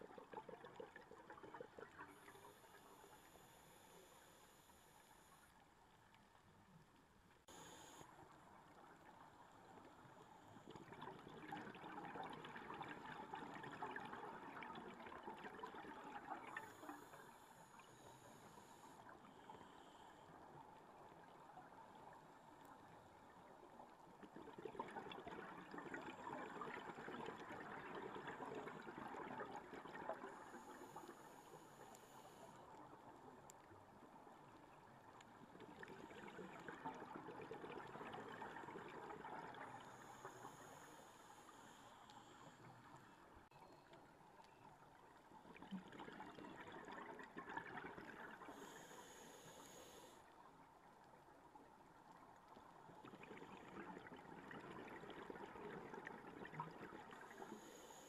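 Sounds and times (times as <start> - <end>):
underwater bubbling: 0.0 - 58.0.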